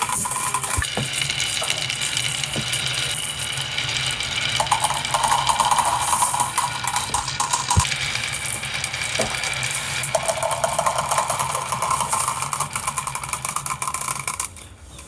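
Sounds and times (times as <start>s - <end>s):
marbles rolling and clattering: 0.0s - 14.5s.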